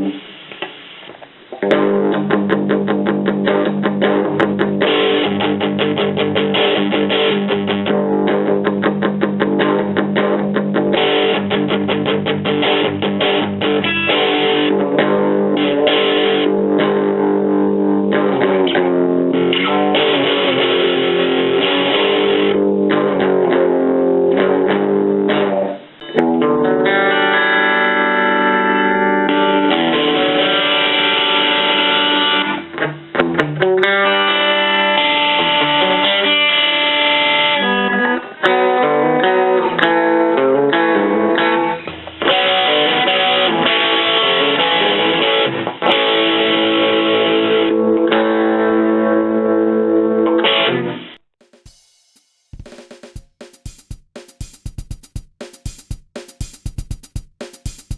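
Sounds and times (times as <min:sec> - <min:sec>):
electric guitar playing: 0:01.6 - 0:51.2.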